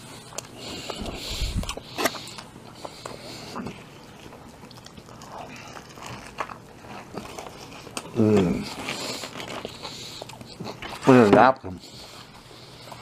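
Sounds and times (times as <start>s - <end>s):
person chewing sandwich: 0.0s - 13.0s.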